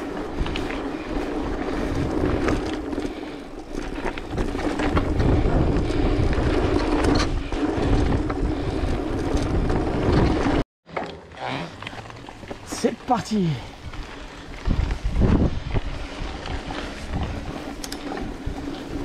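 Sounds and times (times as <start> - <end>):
wind buffeting microphone: 0.0 - 10.6, 13.6 - 19.0
bike clicks and rattles: 0.0 - 19.0
bike tyres rolling on dirt: 0.0 - 19.0.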